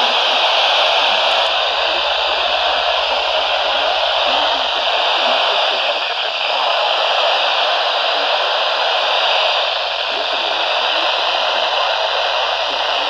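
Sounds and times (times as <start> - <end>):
faint broadcast voice: 0.0 - 13.0
radio static hiss: 0.0 - 13.0.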